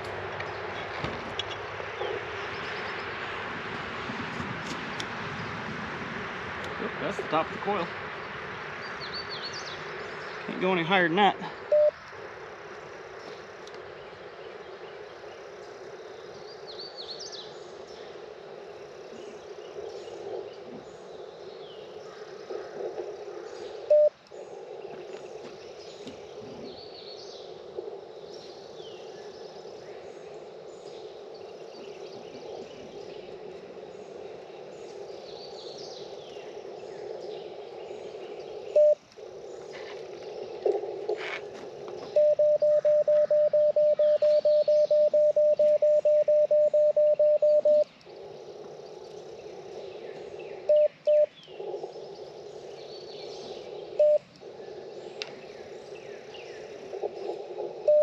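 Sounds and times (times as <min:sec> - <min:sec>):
birds chirping: 0:00.0 - 0:05.7, 0:06.4 - 0:58.0
radio band noise hiss: 0:00.0 - 0:58.0.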